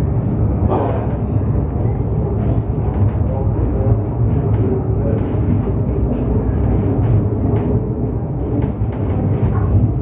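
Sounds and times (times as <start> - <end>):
funicular car rumbling on rails: 0.0 - 10.0.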